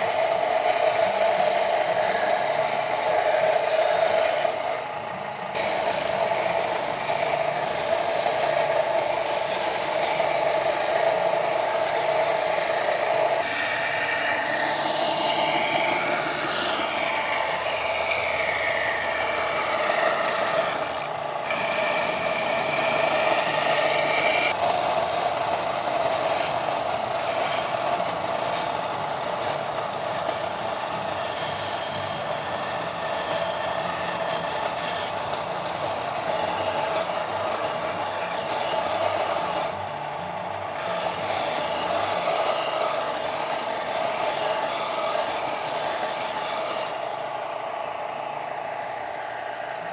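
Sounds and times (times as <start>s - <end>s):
belt sander grinding wood: 0.0s - 49.9s.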